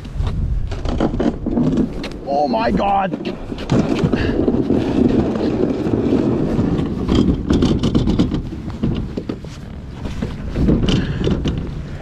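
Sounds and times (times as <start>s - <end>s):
wind buffeting microphone: 0.0s - 12.0s
kayak rustling and scraping on rocks: 0.1s - 12.0s.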